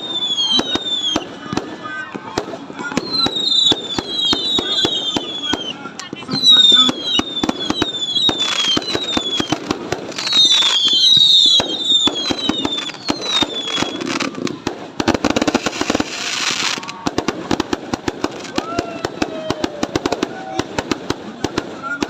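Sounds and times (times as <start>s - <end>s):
fireworks crackling and banging: 0.0s - 22.0s
fireworks descending whistles: 0.0s - 22.0s
fireworks hissing burst: 0.0s - 22.0s.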